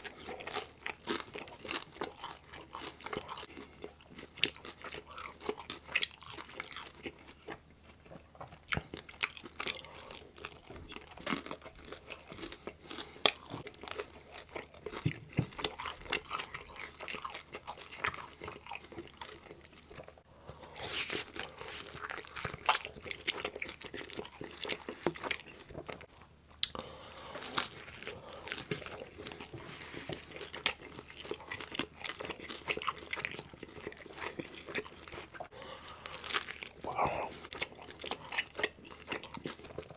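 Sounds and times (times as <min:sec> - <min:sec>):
crunchy bites and wet chewing: 0:00.0 - 0:39.9.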